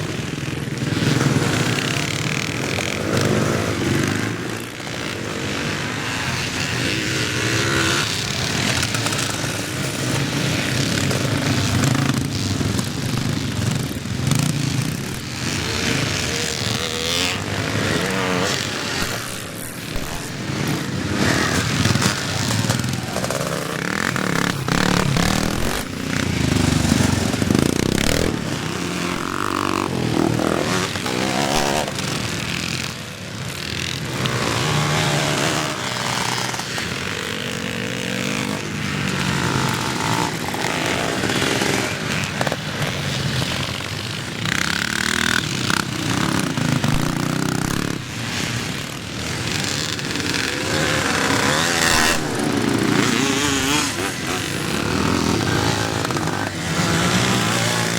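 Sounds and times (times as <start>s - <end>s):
motocross bikes racing: 0.0s - 57.9s.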